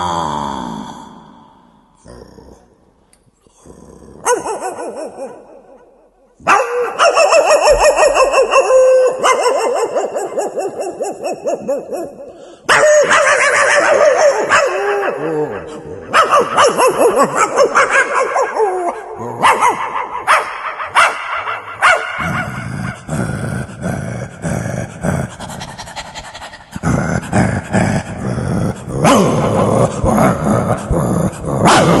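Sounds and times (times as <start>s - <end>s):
man imitating a dog: 3.5s - 5.8s, 6.4s - 32.0s.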